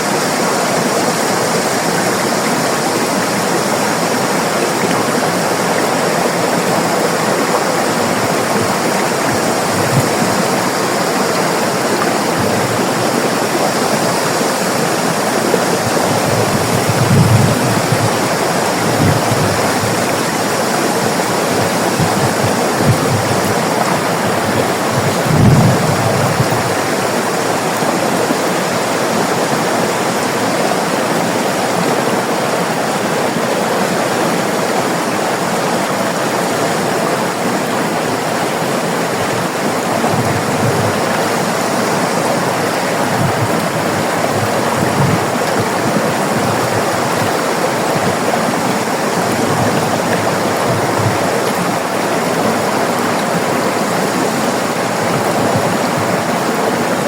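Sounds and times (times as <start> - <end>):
river water rushing and splashing: 0.0 - 57.0.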